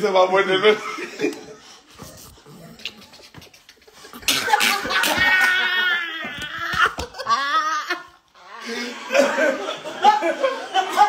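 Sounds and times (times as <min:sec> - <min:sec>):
group of people laughing: 0:00.5 - 0:02.0, 0:03.4 - 0:11.0.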